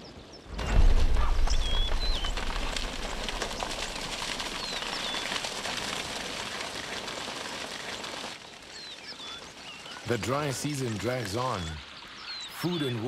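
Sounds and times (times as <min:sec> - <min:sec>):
small birds chirping: 0:00.0 - 0:13.0
rushing crackling noise: 0:00.5 - 0:13.0.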